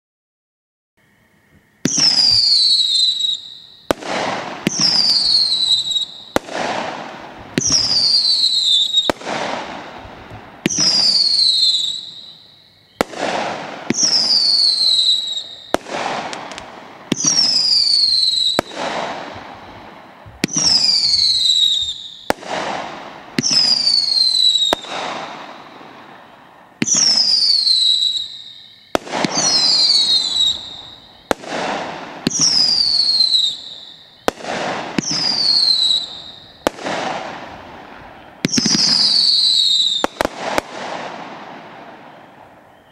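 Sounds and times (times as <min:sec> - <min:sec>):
fireworks cracking and whistling: 0:01.0 - 0:42.9.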